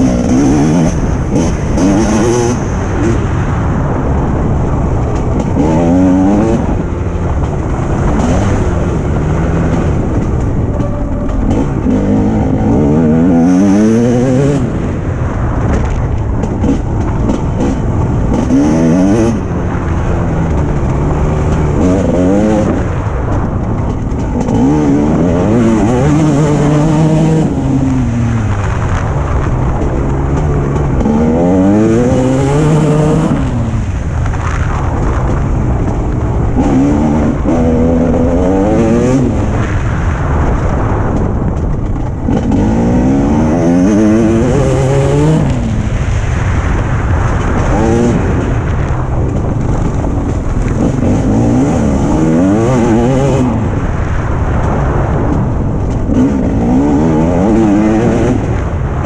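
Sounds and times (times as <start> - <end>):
motocross bike engine revving: 0.0 - 48.7, 49.3 - 54.9, 55.8 - 59.0
steady rushing rumble: 0.0 - 59.0.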